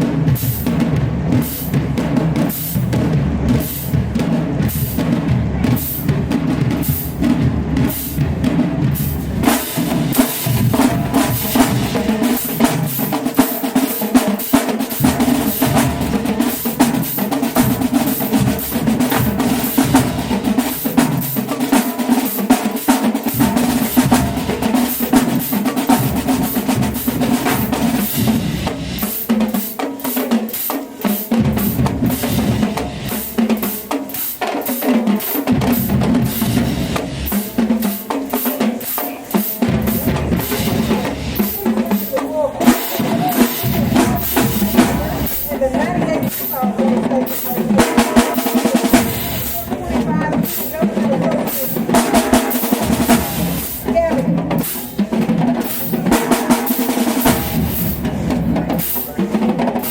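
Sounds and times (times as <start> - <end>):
bass drums: 0.0 - 13.5, 14.8 - 21.7, 23.2 - 29.3, 31.3 - 33.7, 35.5 - 38.2, 39.6 - 59.2
snare drum strokes: 0.0 - 59.9.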